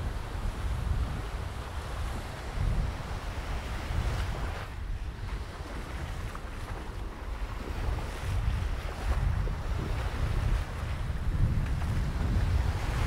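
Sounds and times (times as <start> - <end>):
small waves breaking on shore: 0.0 - 13.0
wind rumbling on microphone: 0.0 - 13.0.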